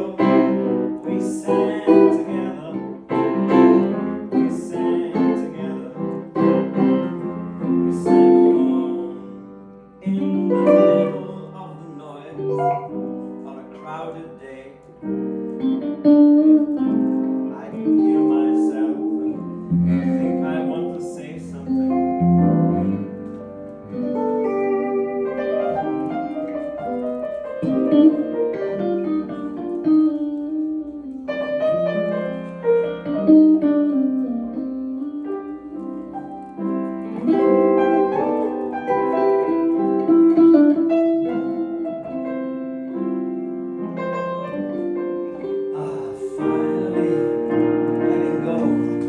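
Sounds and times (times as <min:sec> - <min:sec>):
piano melody over chords: 0:00.0 - 0:49.0.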